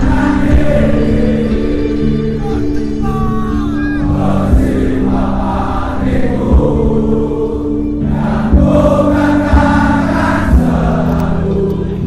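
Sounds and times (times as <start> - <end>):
many voices singing a chant: 0.0 - 12.0.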